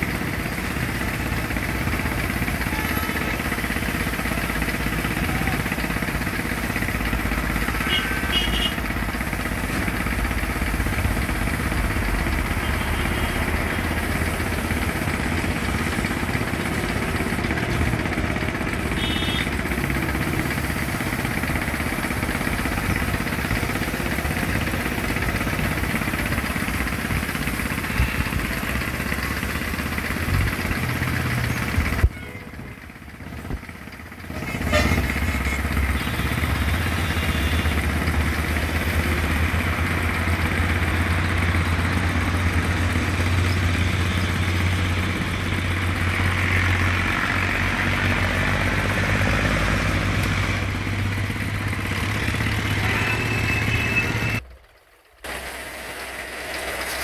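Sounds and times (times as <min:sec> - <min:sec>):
engine rumbling: 0:00.0 - 0:57.0.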